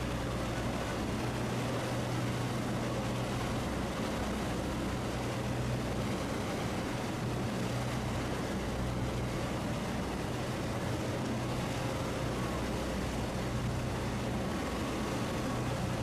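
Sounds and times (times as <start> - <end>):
motorboat engine humming: 0.0 - 16.0
water noise: 0.0 - 16.0.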